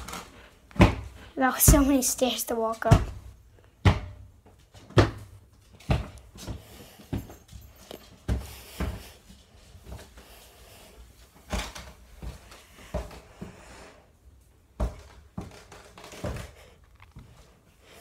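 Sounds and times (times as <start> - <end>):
footsteps climbing stairs: 0.0 - 13.8, 14.6 - 18.0.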